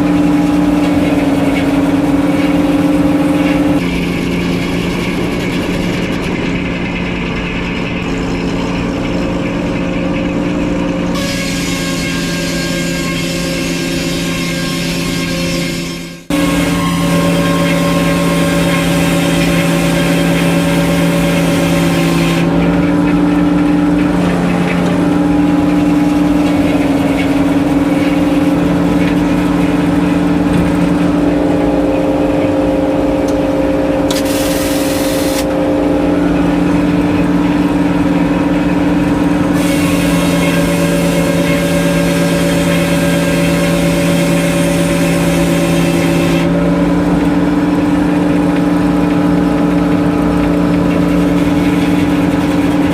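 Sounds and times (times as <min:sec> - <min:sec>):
sawmill engine droning: 0:00.0 - 0:52.9.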